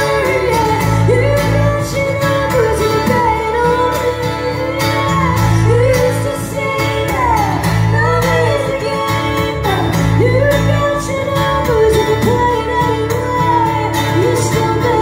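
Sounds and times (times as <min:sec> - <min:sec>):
live band playing: 0:00.0 - 0:15.0
woman singing: 0:00.0 - 0:15.0.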